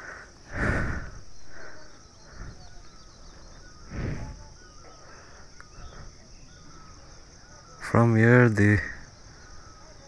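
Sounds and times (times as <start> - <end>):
insects buzzing: 0.0 - 10.0
small birds chirping: 0.0 - 10.0.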